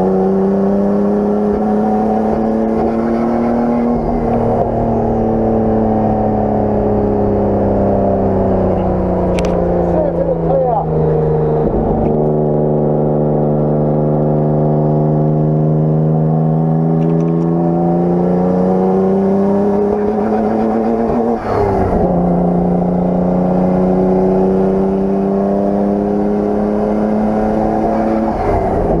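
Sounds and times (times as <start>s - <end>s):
car engine pulling hard: 0.0s - 29.0s.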